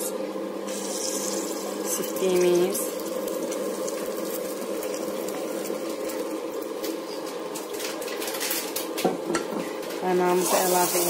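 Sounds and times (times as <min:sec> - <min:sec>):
caramel bubbling and sizzling: 0:00.1 - 0:11.0.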